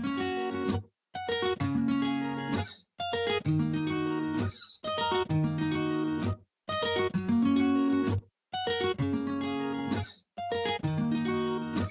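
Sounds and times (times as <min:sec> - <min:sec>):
strummed acoustic guitar: 0:00.0 - 0:11.9.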